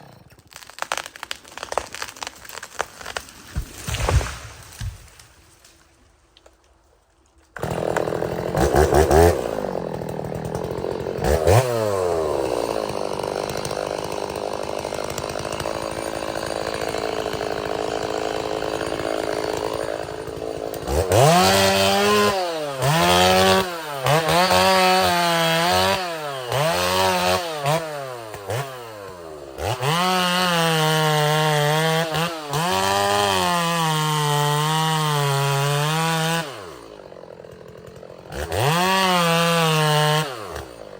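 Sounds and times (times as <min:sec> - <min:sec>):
chainsaw cutting wood: 0:00.0 - 0:06.6, 0:07.4 - 0:40.9.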